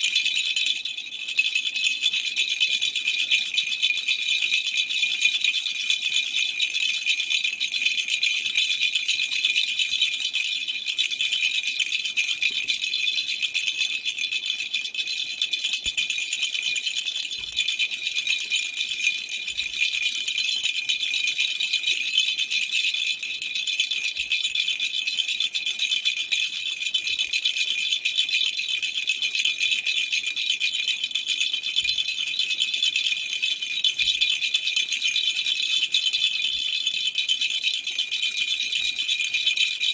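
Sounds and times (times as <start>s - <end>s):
baby rattle toy shaken: 0.0s - 39.9s.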